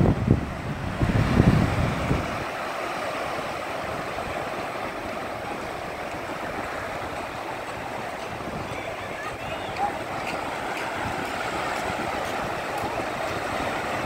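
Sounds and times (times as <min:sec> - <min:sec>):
surf waves breaking: 0:00.0 - 0:14.0
wind buffeting microphone: 0:00.0 - 0:14.0.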